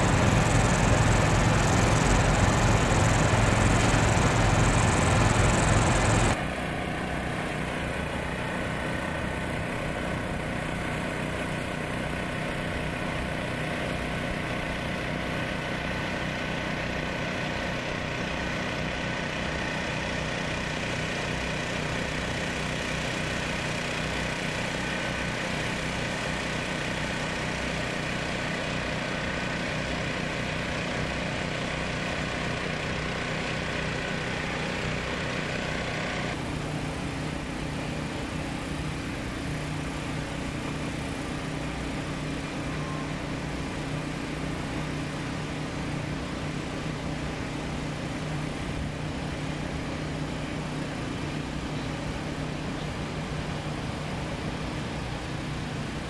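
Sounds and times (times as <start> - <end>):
engines droning: 0.0 - 56.0.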